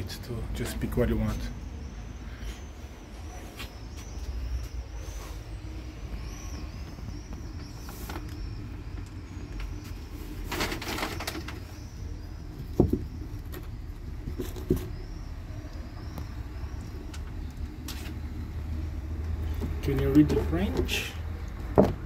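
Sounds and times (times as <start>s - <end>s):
low traffic rumble: 0.0s - 22.0s
small birds chirping: 0.0s - 22.0s.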